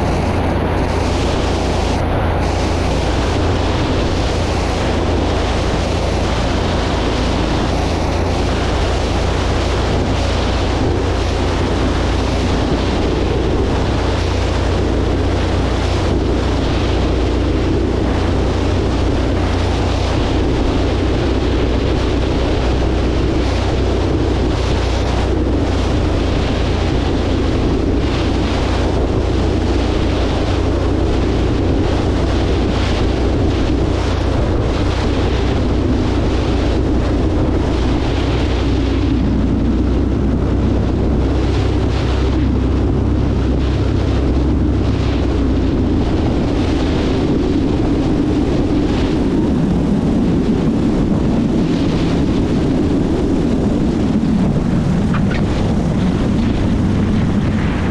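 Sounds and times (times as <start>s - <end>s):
light aircraft engine drone: 0.0s - 57.9s
rushing air noise: 0.0s - 57.9s.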